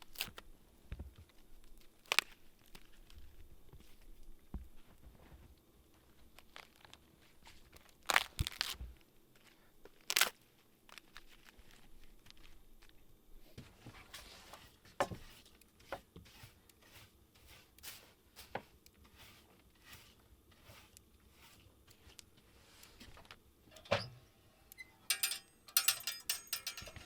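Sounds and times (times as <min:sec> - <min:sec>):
rustling and crunching: 0:00.0 - 0:23.4.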